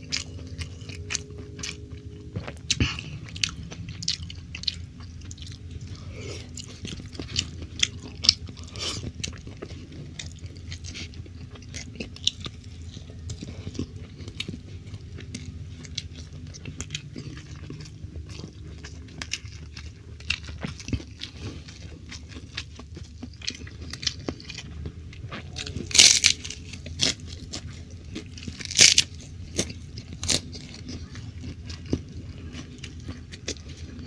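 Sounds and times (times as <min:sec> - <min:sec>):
chewing and biting food: 0:00.0 - 0:34.0
steady low hum: 0:00.0 - 0:34.0.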